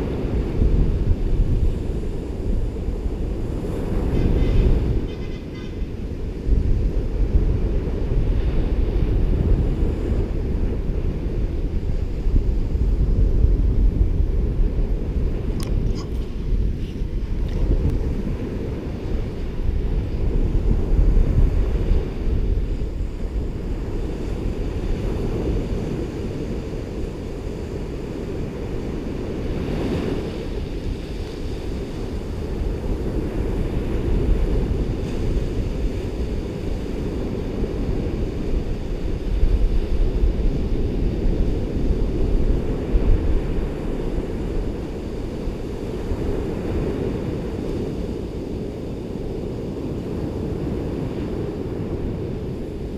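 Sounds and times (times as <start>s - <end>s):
ocean surf washing onto beach: 0.0s - 52.9s
wind rumble on microphone: 0.0s - 52.9s.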